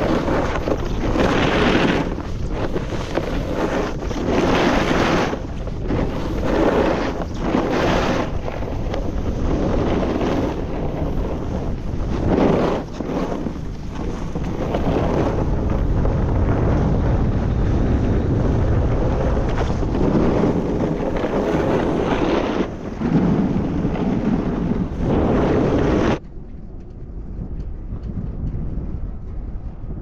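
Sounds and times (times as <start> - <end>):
snowboard carving over snow: 0.0 - 26.2
wind rushing over microphone: 0.0 - 30.0.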